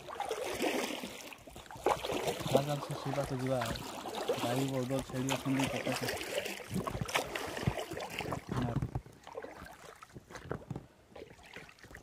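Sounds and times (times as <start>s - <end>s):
oars splashing in water: 0.0s - 12.0s
water lapping at hull: 0.0s - 12.0s.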